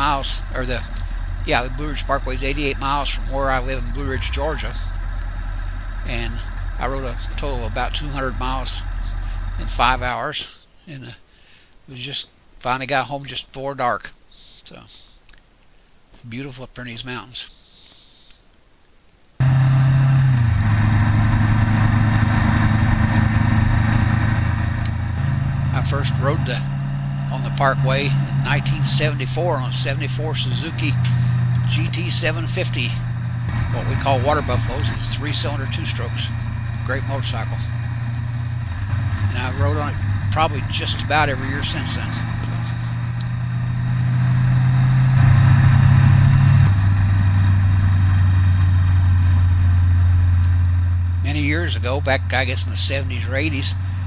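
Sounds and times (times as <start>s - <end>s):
motorcycle engine running: 0.0s - 10.2s, 19.4s - 54.0s
wind and road noise: 0.0s - 10.2s, 19.4s - 54.0s.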